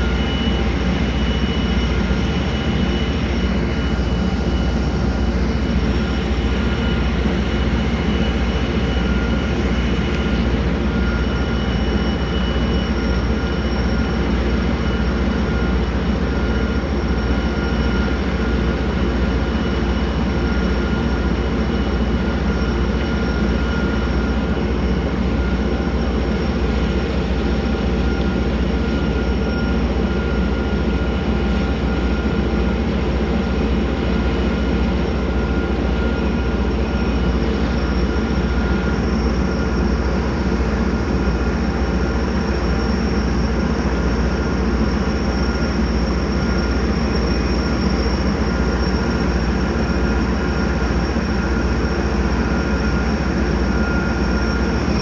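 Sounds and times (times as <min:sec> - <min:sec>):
boat engine droning: 0:00.0 - 0:55.0
whining tones: 0:00.0 - 0:55.0.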